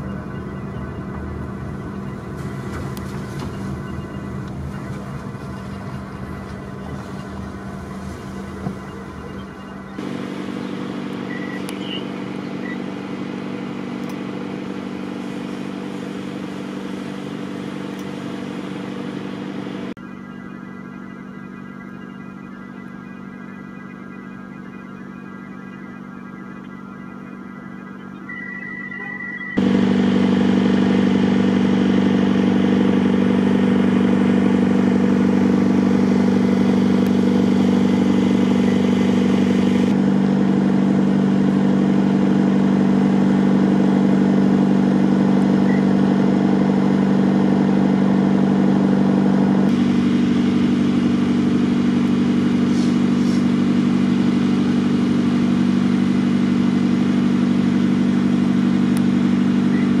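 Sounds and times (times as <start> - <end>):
engine droning steadily: 0.0 - 60.0.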